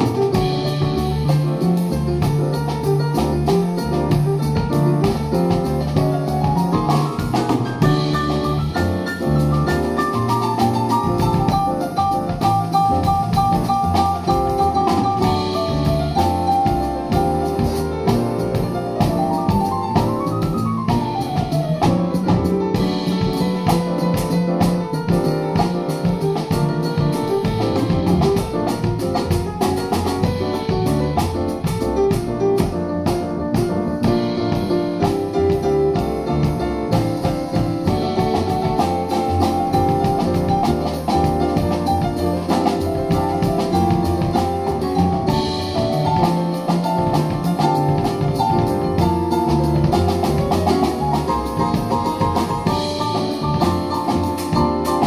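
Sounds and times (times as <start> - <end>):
double bass: 0.0 - 55.0
drum kit on cymbals and drums: 0.0 - 55.0
jazz piano: 0.0 - 55.0.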